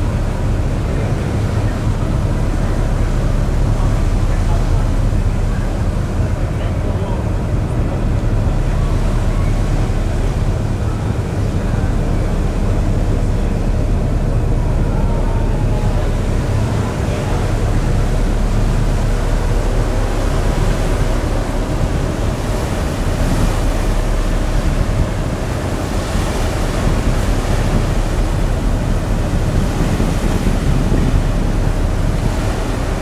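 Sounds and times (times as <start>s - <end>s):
choppy sea against hull: 0.0s - 33.0s
ferry engine rumble: 0.0s - 33.0s
wind buffeting microphone: 0.0s - 33.0s.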